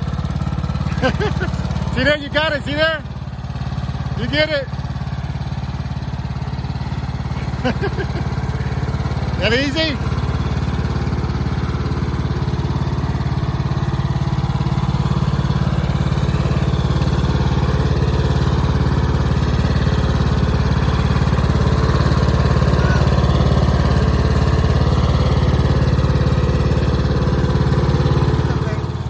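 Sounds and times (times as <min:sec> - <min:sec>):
riding lawnmower engine running: 0:00.0 - 0:29.0.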